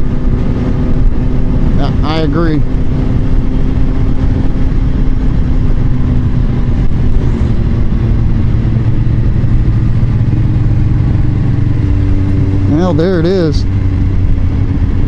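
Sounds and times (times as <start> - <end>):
motorcycle engine running: 0.0 - 15.0
road noise: 0.0 - 15.0
wind noise: 0.0 - 15.0.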